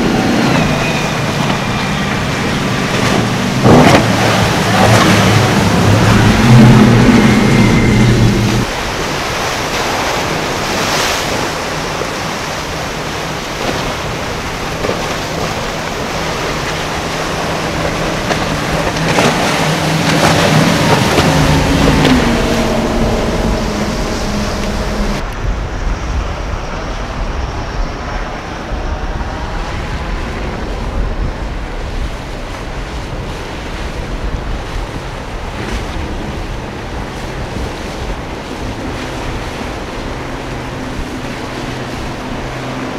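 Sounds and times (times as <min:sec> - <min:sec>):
outboard motors running: 0:00.0 - 0:25.7, 0:27.8 - 0:42.9
rushing water: 0:00.0 - 0:42.9
wind buffeting microphone: 0:00.0 - 0:42.9.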